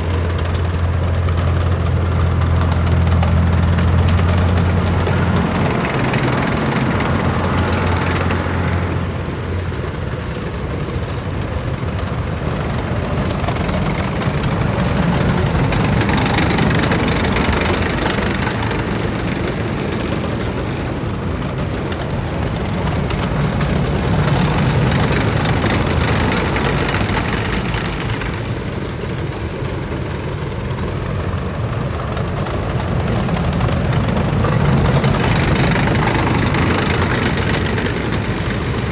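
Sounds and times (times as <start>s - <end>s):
heavy vehicle engines passing: 0.0s - 38.9s.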